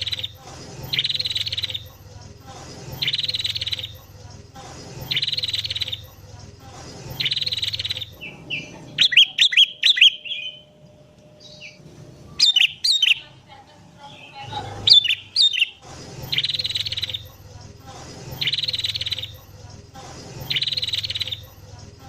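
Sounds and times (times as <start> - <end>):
bulbul song: 0.0 - 2.2, 2.9 - 4.2, 5.0 - 17.4, 18.3 - 19.5, 20.4 - 21.6
prinia calls: 0.0 - 22.0.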